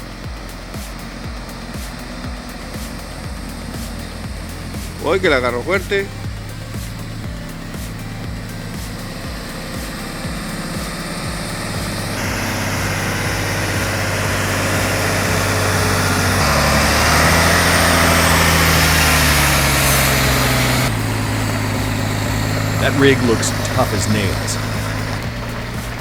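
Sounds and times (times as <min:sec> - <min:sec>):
heavy vehicle engine under load: 0:00.0 - 0:26.0.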